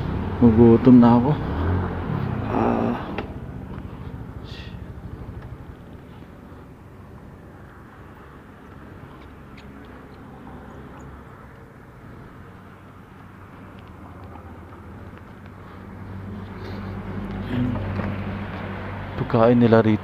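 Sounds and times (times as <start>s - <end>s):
outdoor road noise: 0.0s - 20.0s
vehicle engine humming: 0.0s - 20.0s.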